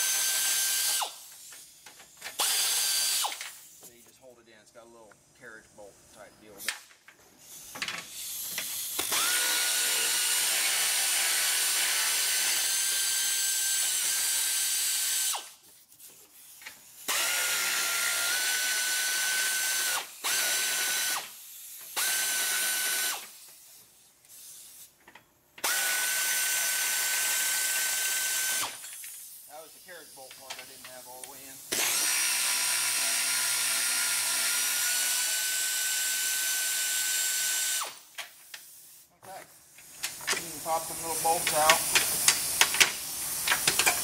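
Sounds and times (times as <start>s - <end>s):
pneumatic air ratchet whining: 0.0s - 3.9s, 6.6s - 44.0s.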